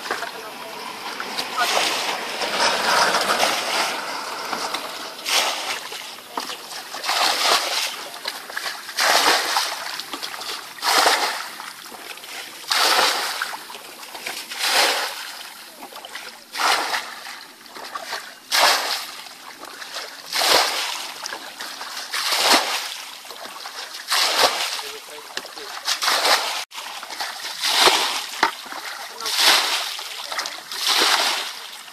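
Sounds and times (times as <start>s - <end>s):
muddy water splashing: 0.0s - 31.9s.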